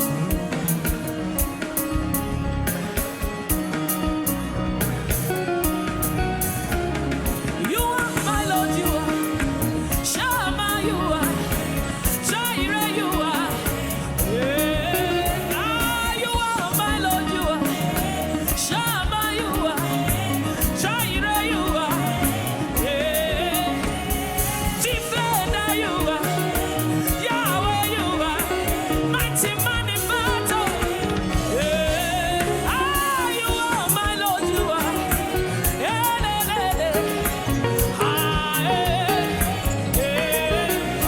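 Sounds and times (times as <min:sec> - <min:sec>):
band playing gospel music: 0:00.0 - 0:41.0
person singing: 0:05.3 - 0:41.0.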